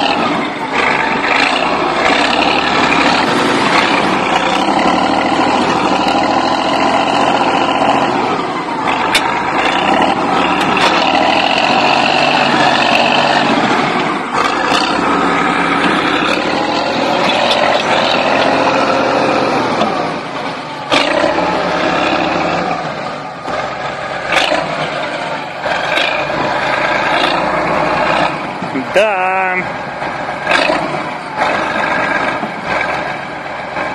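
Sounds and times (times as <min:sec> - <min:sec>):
bulldozer diesel engine revving: 0:00.0 - 0:33.9.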